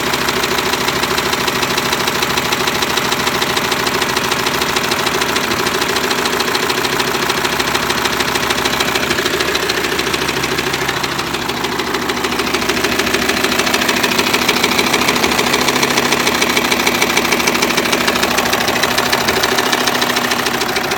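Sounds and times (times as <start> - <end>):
diesel engine idling: 0.0 - 20.9
rapid engine knock: 0.0 - 20.9.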